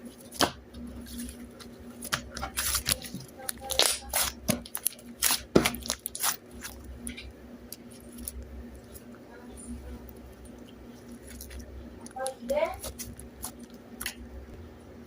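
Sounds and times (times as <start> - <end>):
faint low hum: 0.0 - 15.0
crackling tearing and tapping: 0.2 - 9.2, 10.4 - 14.2.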